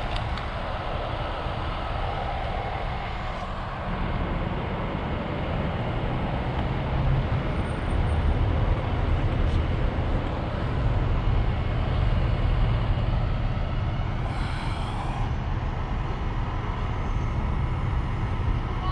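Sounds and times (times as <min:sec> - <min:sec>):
street noise rumble and hiss: 0:00.0 - 0:18.9.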